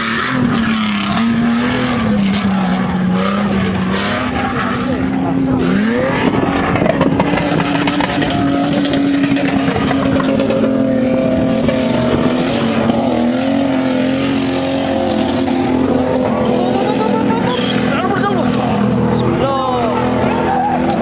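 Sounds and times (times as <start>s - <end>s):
engine revving high: 0.0s - 21.0s.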